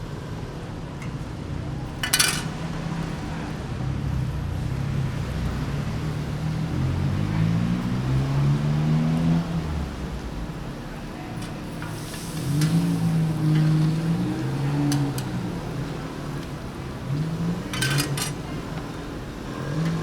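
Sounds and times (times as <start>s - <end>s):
traffic noise: 0.0s - 20.0s
vehicle engine accelerating: 2.9s - 20.0s.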